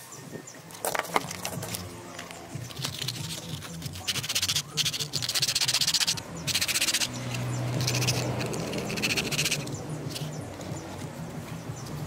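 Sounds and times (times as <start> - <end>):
sandpaper rubbing on metal: 1.1 - 11.1.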